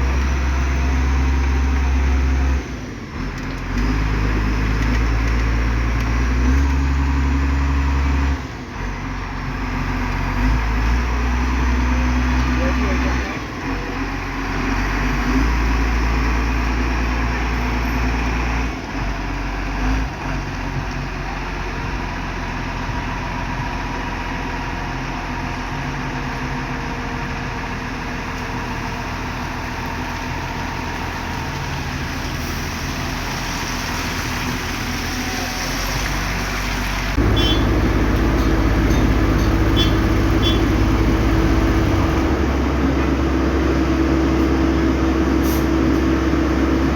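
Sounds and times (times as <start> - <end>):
construction machinery engine running: 0.0 - 46.9.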